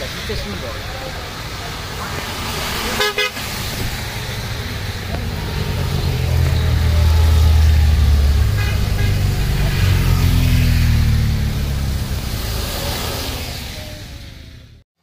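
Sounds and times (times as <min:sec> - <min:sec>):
tyres hissing on wet road: 0:00.0 - 0:14.6
motorcycle engines passing: 0:00.0 - 0:14.8.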